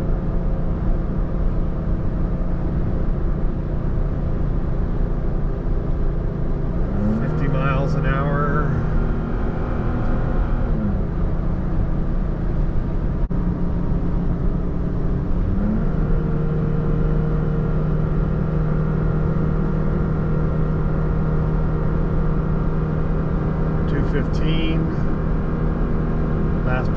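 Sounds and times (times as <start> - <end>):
road noise: 0.0 - 26.9
truck engine drone: 0.0 - 26.9.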